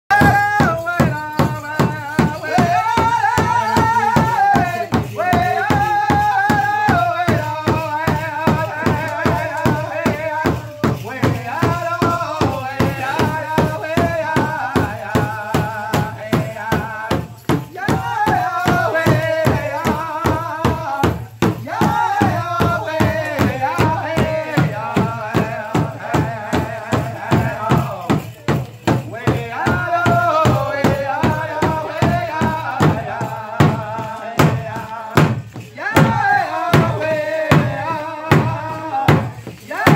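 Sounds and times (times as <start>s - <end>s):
high-pitched voices singing in unison: 0.1s - 28.2s, 29.1s - 39.9s
large hide drum beating: 0.1s - 39.9s.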